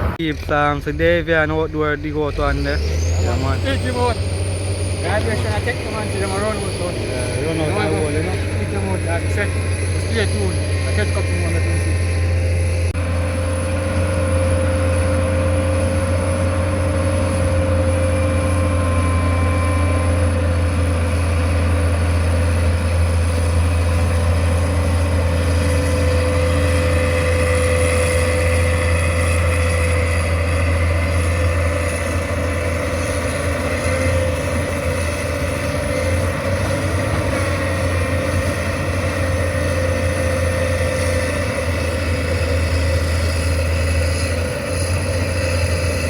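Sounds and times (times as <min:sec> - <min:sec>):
diesel engine humming: 0:00.0 - 0:46.0
engine whine: 0:00.0 - 0:46.0.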